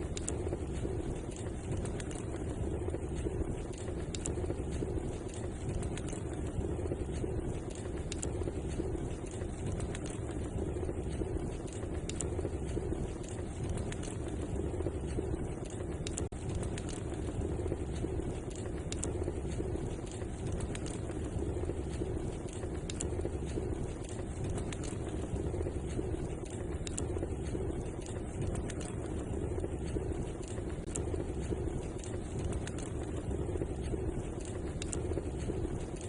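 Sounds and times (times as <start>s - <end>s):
fire crackling and popping: 0.0s - 36.0s
fire rushing noise: 0.0s - 36.0s.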